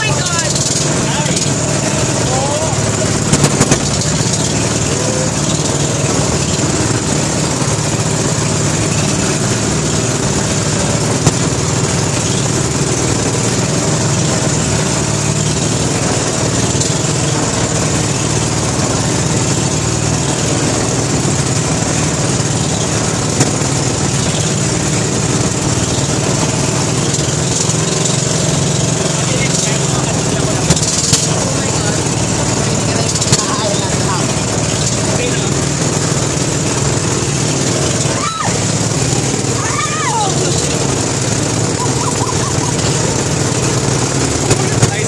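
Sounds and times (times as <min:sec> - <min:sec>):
boat engine drone: 0:00.0 - 0:45.0
rushing water noise: 0:00.0 - 0:45.0.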